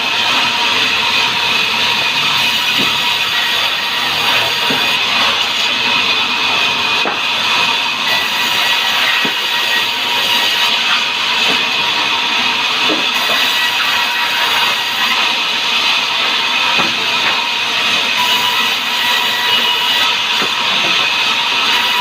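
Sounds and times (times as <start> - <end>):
sawmill saw cutting timber: 0.0 - 22.0.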